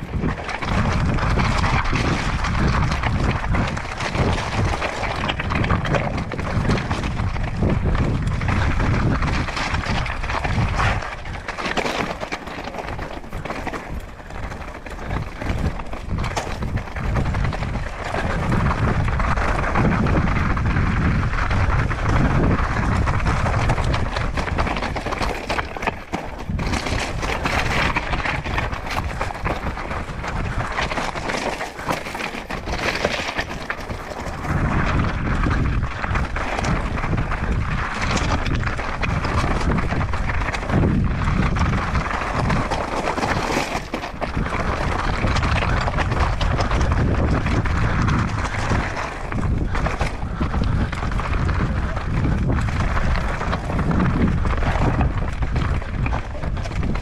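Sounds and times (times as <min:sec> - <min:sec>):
bike rattling: 0:00.0 - 0:57.0
bike tyres on gravel: 0:00.0 - 0:57.0
wind buffeting microphone: 0:00.0 - 0:57.0.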